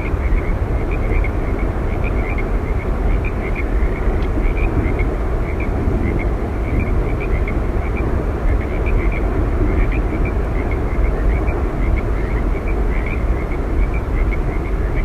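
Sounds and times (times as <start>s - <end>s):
waterfall roar: 0.0s - 15.0s.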